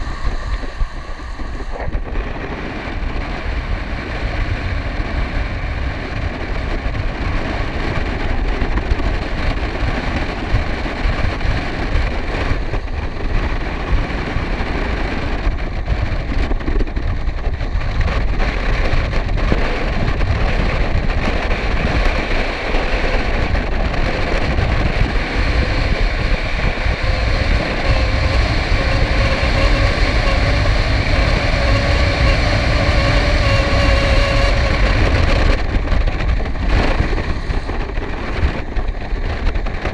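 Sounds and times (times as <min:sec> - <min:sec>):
skate wheels rolling on asphalt: 0:00.0 - 0:39.9
wind rushing over microphone: 0:00.0 - 0:39.9.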